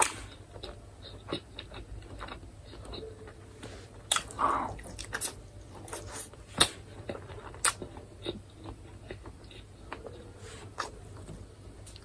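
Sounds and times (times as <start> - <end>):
person chewing: 0.0 - 3.4, 4.0 - 12.0.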